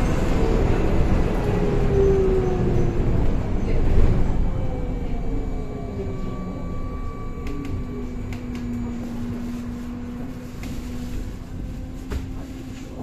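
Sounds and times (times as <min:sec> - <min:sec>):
trolleybus electric hum: 0:00.0 - 0:13.0.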